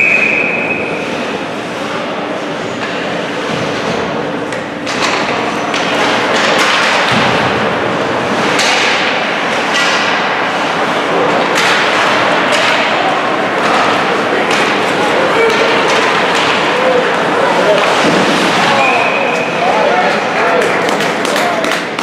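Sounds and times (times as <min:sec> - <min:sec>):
puck and stick thuds: 0:02.8 - 0:19.6, 0:20.7 - 0:22.0.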